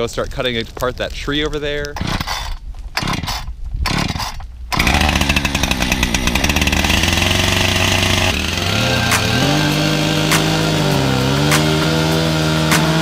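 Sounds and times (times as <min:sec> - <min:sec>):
chainsaw starting and running: 0:02.0 - 0:13.0.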